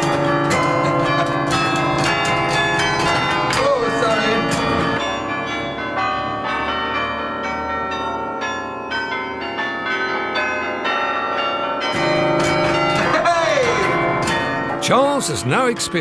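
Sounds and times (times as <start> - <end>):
carillon bells playing a tune: 0.0 - 16.0.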